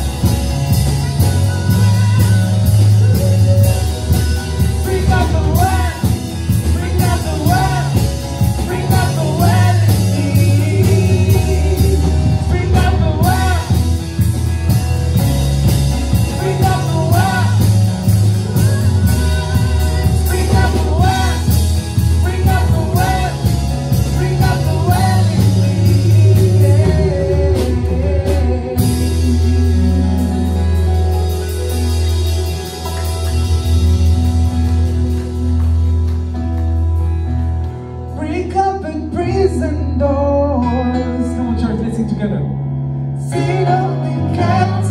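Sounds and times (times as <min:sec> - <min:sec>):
rock song with singing: 0:00.0 - 0:34.9, 0:43.2 - 0:44.9.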